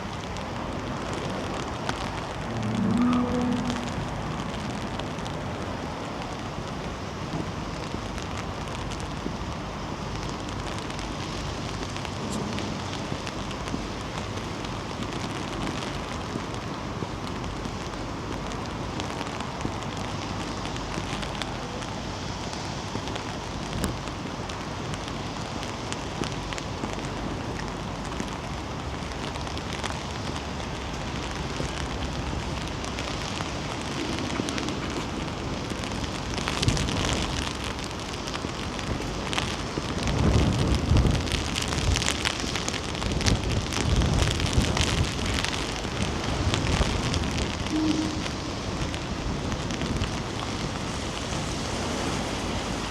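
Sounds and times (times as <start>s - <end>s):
rain pattering: 0.0s - 52.9s
wind rumbling on microphone: 0.0s - 52.9s.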